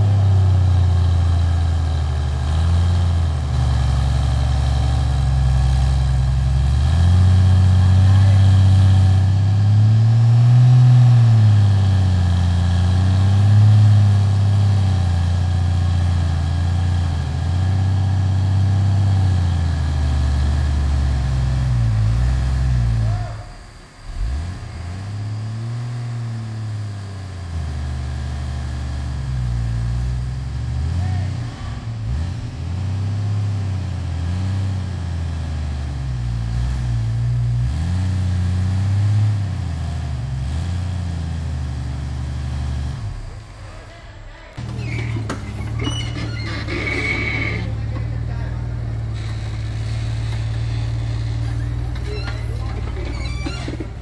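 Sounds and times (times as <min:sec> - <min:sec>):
jeep engine revving: 0:00.0 - 0:54.0.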